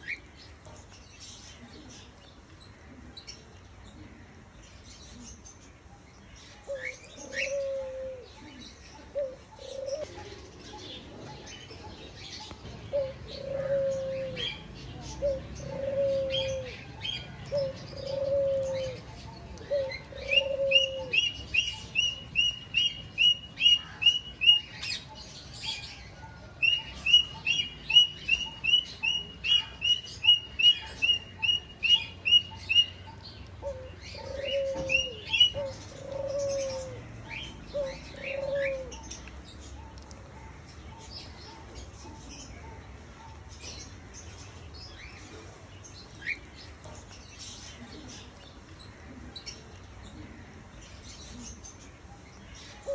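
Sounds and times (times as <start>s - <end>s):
birds cooing: 6.4s - 52.9s.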